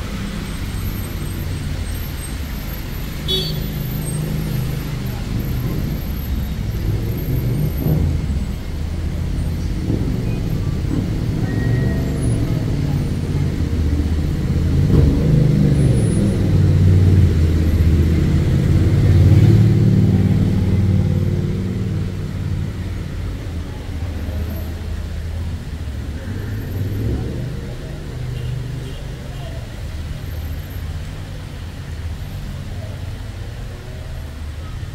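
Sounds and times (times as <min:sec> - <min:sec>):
vehicle engine in traffic: 0:00.0 - 0:34.9.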